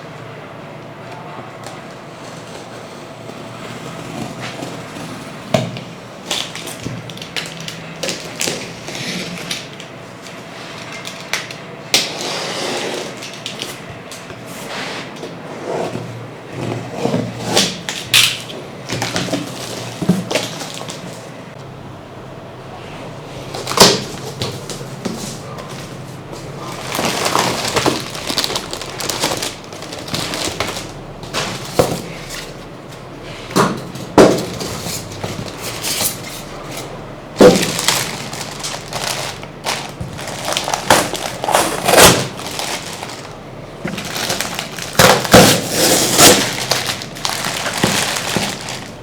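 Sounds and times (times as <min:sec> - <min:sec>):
packaging rustling and scraping: 0:01.6 - 0:21.3, 0:23.4 - 0:49.0.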